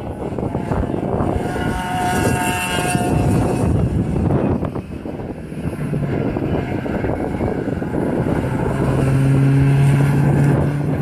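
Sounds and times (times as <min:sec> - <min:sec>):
race cars passing: 0:00.0 - 0:11.0.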